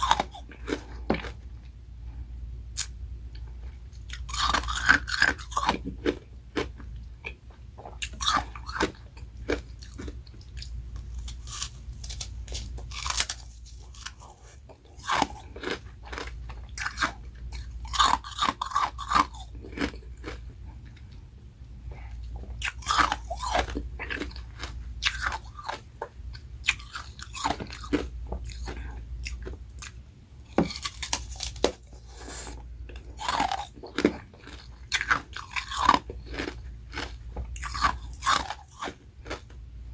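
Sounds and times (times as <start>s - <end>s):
ice crunching and chewing: 0.0s - 1.4s, 3.9s - 21.1s, 22.3s - 25.8s, 26.6s - 30.0s, 30.6s - 39.6s.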